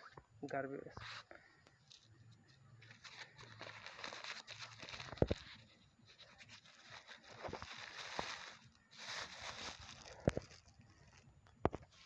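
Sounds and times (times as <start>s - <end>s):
scratchy rustling and scraping: 1.9s - 12.0s.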